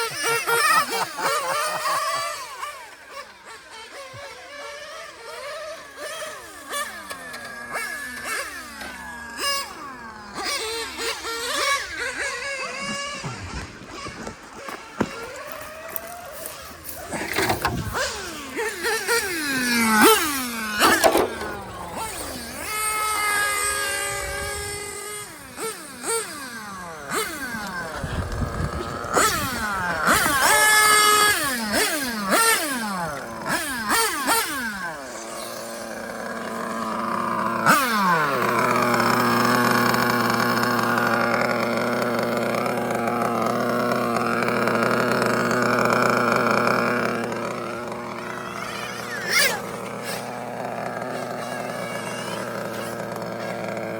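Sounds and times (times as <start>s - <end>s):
rc car engine revving: 0.0s - 53.9s.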